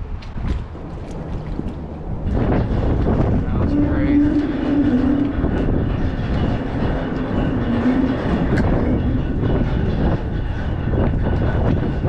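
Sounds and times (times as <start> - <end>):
traffic rumbling on a bridge: 0.0 - 12.0
wavering low hum: 0.0 - 12.0.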